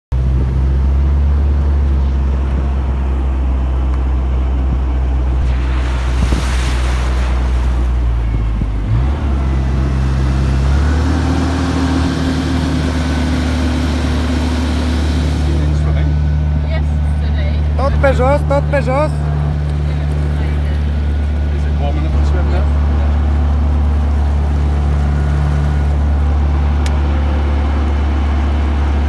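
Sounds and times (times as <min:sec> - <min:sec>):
car engine running: 0:00.1 - 0:29.0
steady engine hum: 0:00.1 - 0:29.0
water splashing: 0:05.2 - 0:29.0.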